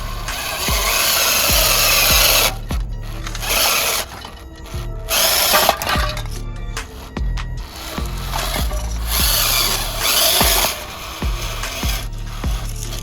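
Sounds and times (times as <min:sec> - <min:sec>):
background music with steady beat: 0:00.0 - 0:13.0
small power tool working material: 0:00.0 - 0:13.0.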